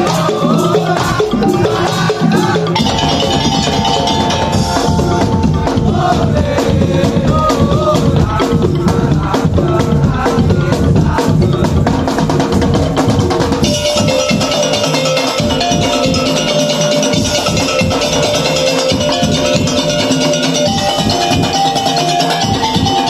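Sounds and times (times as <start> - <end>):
rhythmic drumming: 0.0 - 23.0
tuned percussion melody: 0.0 - 23.0.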